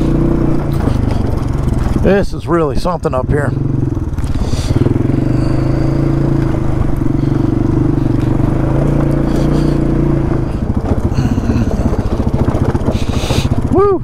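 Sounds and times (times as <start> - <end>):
atv engine running: 0.0 - 14.0
vehicle clattering over rough trail: 0.0 - 14.0.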